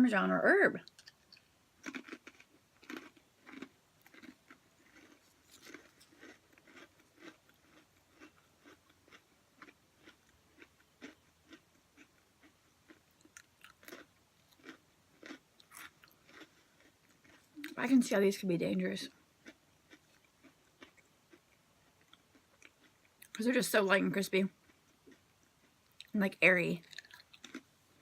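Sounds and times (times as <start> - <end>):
chewing crispy crackers: 0.8 - 18.0, 19.0 - 23.4, 24.5 - 26.2, 26.8 - 28.0.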